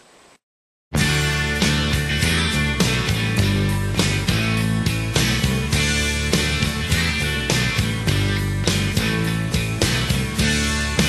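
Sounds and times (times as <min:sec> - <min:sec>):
distorted electric guitar: 0:01.0 - 0:11.0.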